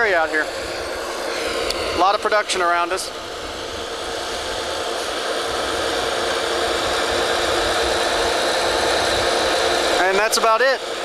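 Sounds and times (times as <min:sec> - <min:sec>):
engines and pump machinery droning: 0:00.0 - 0:11.0.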